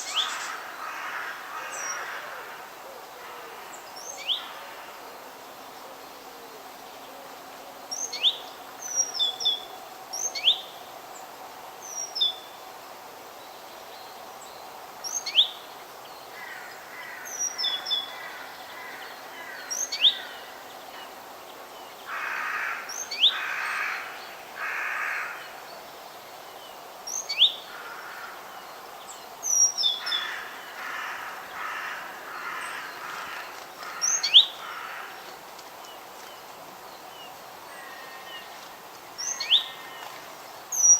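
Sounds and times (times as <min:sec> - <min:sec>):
steady outdoor hiss: 0:00.0 - 0:40.9.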